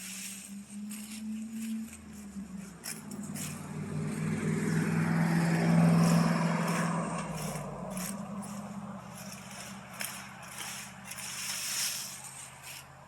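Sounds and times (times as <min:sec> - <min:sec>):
vehicle driving past: 0:00.0 - 0:13.0.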